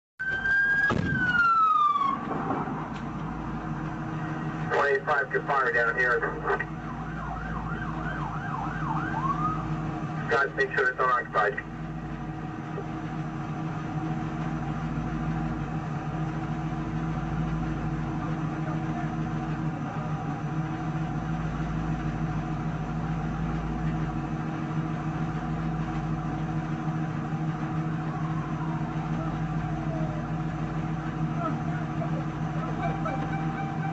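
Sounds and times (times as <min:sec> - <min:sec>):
car engine idling: 0:01.1 - 0:33.9.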